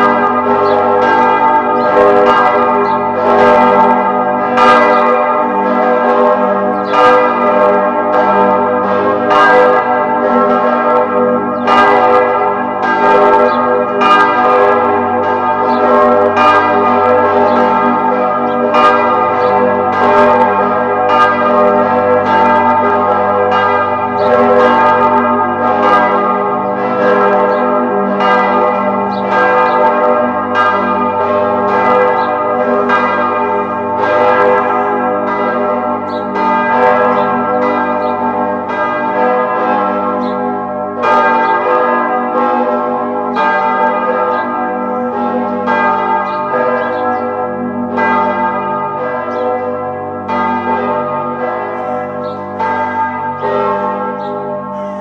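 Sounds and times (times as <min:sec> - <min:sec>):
church bells pealing: 0:00.0 - 0:55.0.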